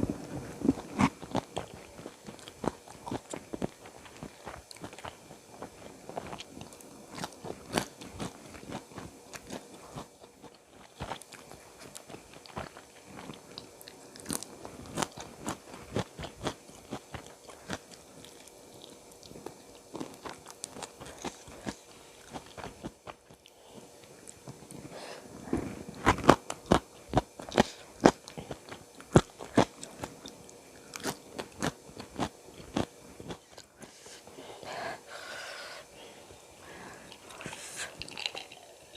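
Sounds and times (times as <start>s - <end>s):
biting and chewing crunches: 0.3s - 24.8s, 25.6s - 33.9s.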